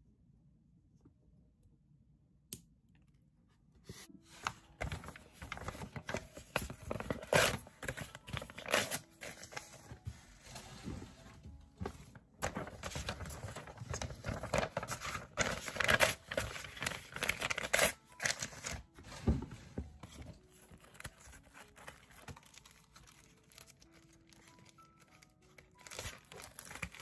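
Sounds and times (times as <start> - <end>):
paper rustling and crinkling: 3.9 - 27.0.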